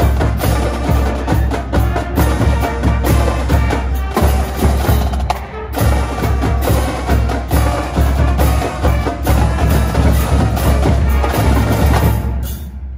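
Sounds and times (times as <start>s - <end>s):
snare and tenor drums: 0.0s - 12.7s
brass and woodwinds: 0.0s - 12.9s.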